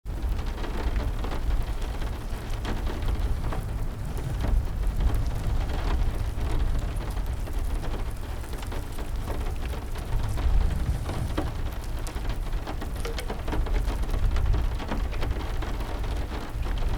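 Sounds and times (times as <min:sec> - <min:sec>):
heavy rain: 0:00.1 - 0:16.9
wood fire crackling: 0:00.5 - 0:16.7.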